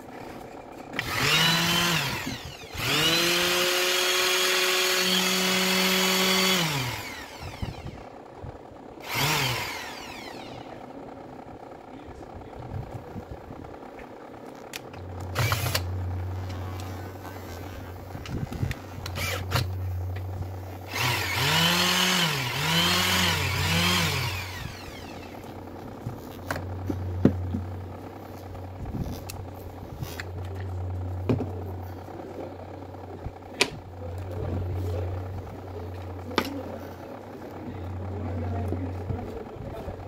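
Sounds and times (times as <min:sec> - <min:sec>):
orbital sander humming: 0:01.0 - 0:11.7, 0:15.0 - 0:40.0.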